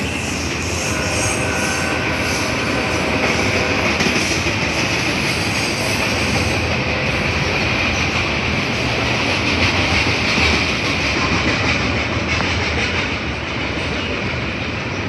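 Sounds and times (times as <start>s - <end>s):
freight train rolling along track: 0.0s - 15.0s.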